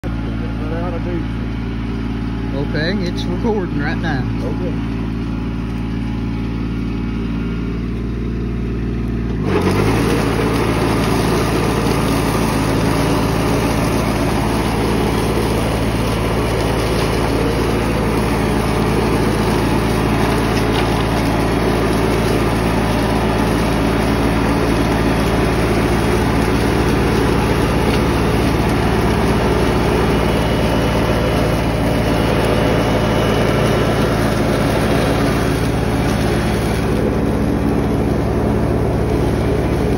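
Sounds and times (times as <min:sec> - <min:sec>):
diesel tractor engine: 0:00.0 - 0:39.9.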